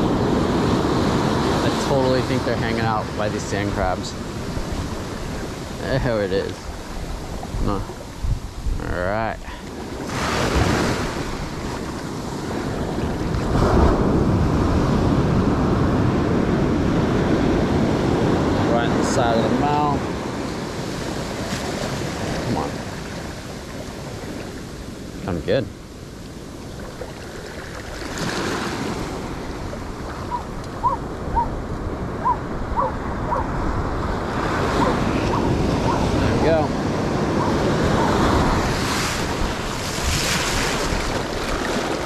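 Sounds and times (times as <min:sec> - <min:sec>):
ocean surf on beach: 0:00.0 - 0:42.0
wind buffeting microphone: 0:02.4 - 0:24.9, 0:28.3 - 0:42.0.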